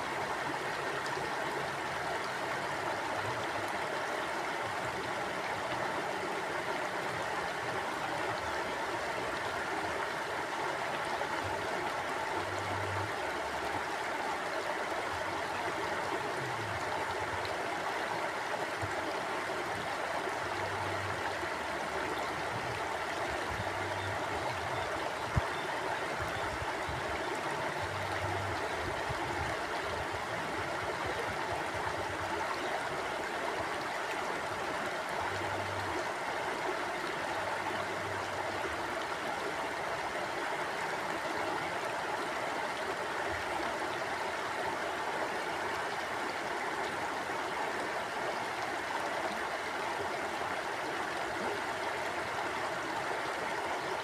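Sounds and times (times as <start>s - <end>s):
stream flowing and gurgling: 0.0s - 54.0s.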